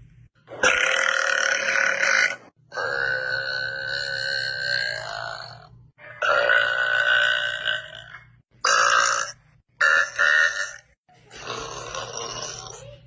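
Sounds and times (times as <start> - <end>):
woman belching: 0.6 - 12.8.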